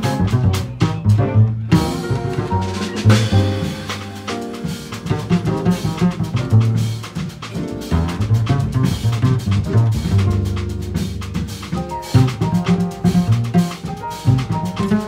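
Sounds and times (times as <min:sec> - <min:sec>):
double bass notes: 0:00.0 - 0:15.0
drum strikes: 0:00.0 - 0:15.0
jazz quartet playing: 0:00.0 - 0:15.0.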